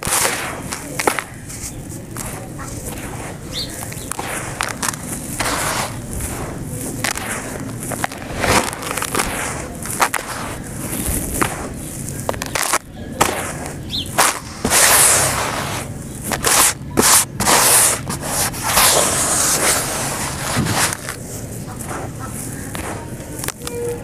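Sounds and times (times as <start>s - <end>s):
hands raking through dry grit: 0.0s - 23.6s.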